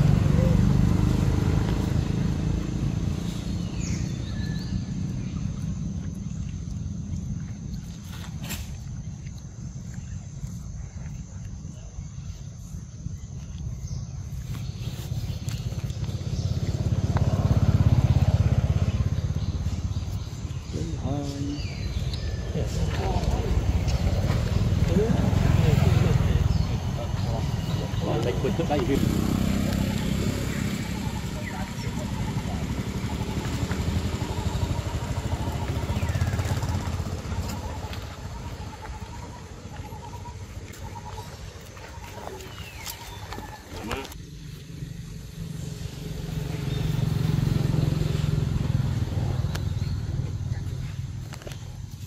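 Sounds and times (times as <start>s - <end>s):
vehicle engine passing by: 0.0s - 8.9s, 14.4s - 52.0s.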